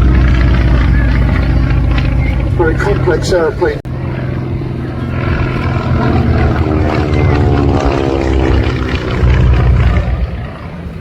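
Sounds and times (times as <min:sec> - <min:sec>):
biplane engine droning past: 0:00.0 - 0:11.0.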